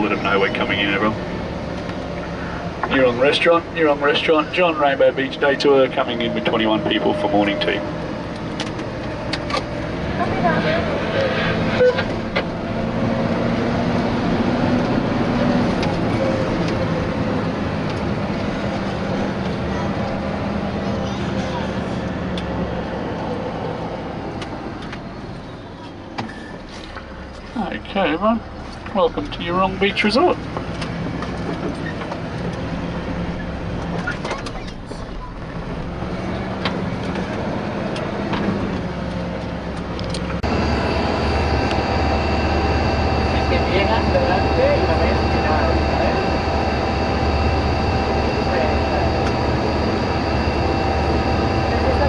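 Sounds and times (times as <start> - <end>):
bus engine hum: 0.0 - 52.0
tyre and road rumble: 0.0 - 52.0.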